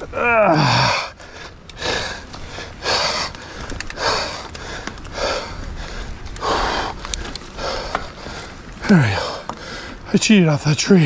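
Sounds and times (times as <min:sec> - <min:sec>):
person breathing hard: 0:00.5 - 0:10.1.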